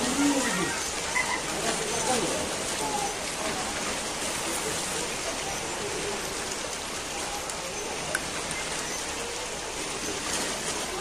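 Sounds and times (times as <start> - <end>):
faint distant voices: 0.0 - 11.0
lake water splashing: 0.0 - 11.0.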